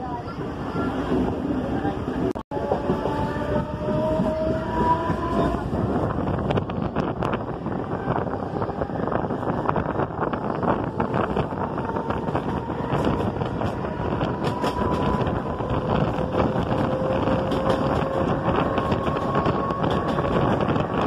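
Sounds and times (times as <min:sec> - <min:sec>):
trains rumbling and clattering: 0:00.0 - 0:21.0
wind on the microphone: 0:00.0 - 0:21.0.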